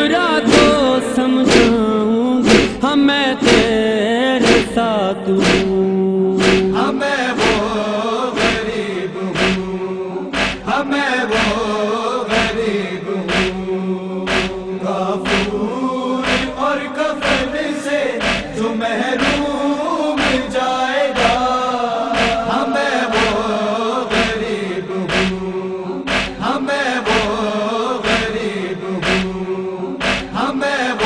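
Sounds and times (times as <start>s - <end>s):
men chanting a cappella: 0.0s - 31.0s
rhythmic chest-beating: 0.0s - 31.0s.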